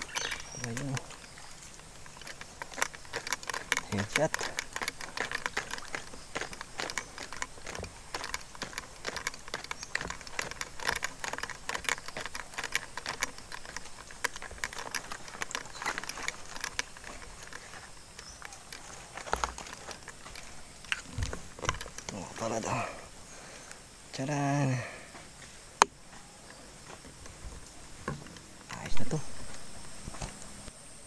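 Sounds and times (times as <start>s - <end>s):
twigs and leaves crackling: 0.0s - 30.8s.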